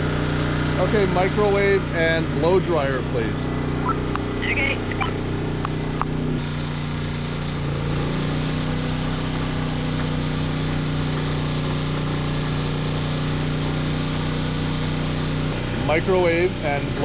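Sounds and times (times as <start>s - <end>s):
generator running: 0.0s - 17.0s.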